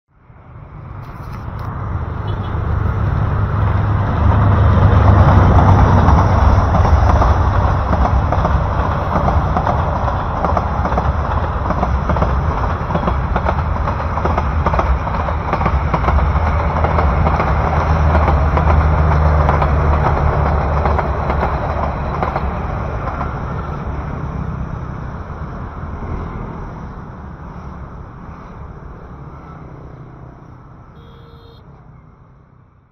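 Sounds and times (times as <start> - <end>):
locomotive engine hum: 0.3 - 32.5
train wheels rumbling on rails: 1.0 - 29.8.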